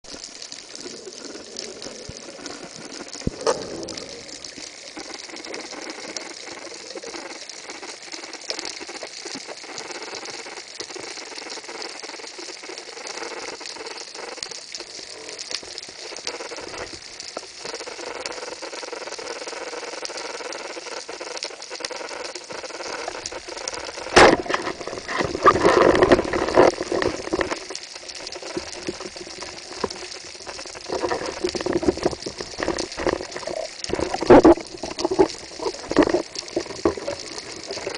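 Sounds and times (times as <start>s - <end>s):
underwater crackling hiss: 0.0s - 37.9s.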